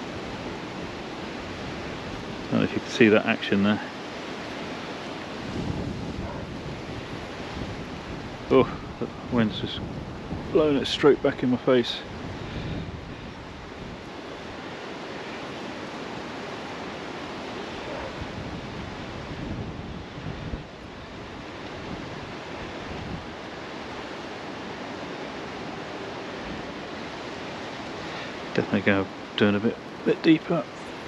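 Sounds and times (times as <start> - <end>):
wind blowing across microphone: 0.0 - 31.0.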